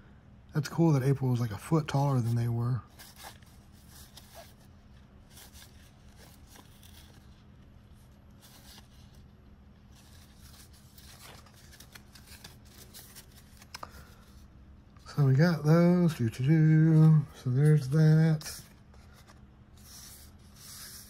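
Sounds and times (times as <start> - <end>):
steady low hum: 0.0 - 21.0
cardboard cards shuffled by hand: 2.2 - 15.2, 15.9 - 21.0.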